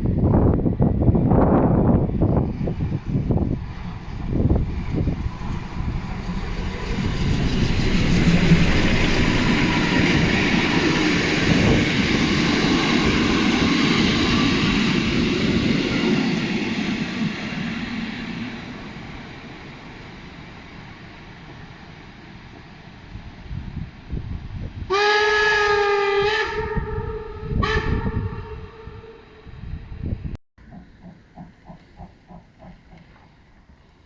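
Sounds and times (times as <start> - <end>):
steam locomotive passing: 0.0 - 34.0.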